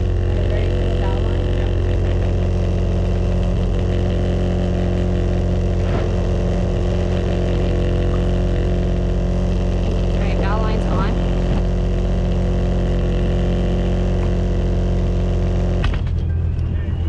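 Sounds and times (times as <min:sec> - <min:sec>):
boat diesel engine running: 0:00.0 - 0:17.0.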